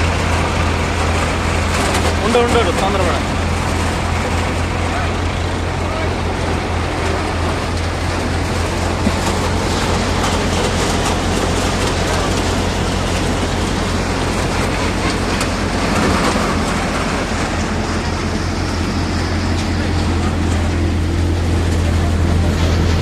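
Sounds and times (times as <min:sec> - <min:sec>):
threshing machine rattling: 0:00.0 - 0:23.0
tractor engine hum: 0:00.0 - 0:23.0.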